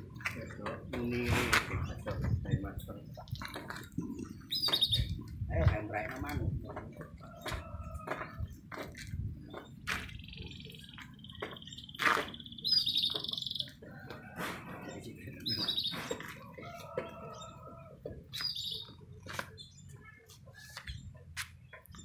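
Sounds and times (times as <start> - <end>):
canaries singing: 0.0 - 22.0.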